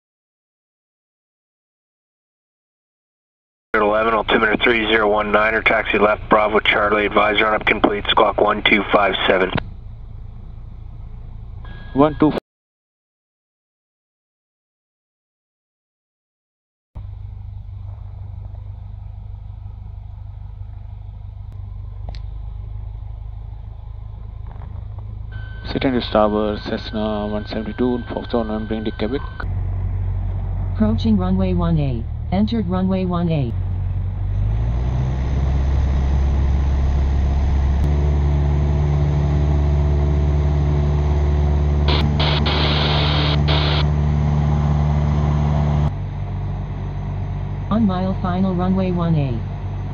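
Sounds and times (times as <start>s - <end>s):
aircraft engine and propeller drone: 3.8s - 12.4s, 17.0s - 49.9s.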